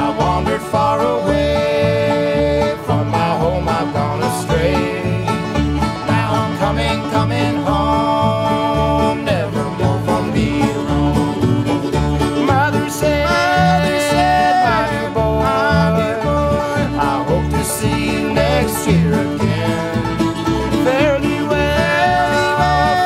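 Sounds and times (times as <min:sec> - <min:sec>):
bowed fiddle melody: 0:00.0 - 0:23.0
strummed guitar: 0:00.0 - 0:23.0
upright bass beat: 0:00.0 - 0:23.0.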